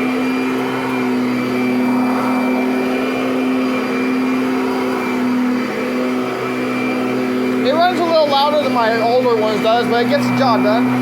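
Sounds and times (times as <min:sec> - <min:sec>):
upright vacuum running on carpet: 0:00.0 - 0:11.0.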